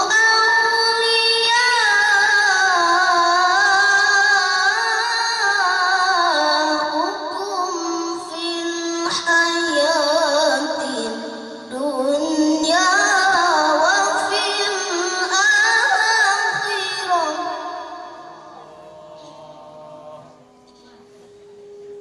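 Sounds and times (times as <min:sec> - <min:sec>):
boy reciting melodically: 0:00.0 - 0:21.0.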